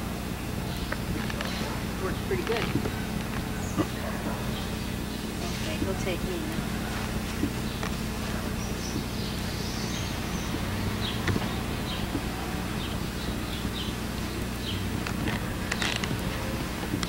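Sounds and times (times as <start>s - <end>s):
low hum: 0.0s - 17.0s
tape hiss: 0.0s - 17.0s.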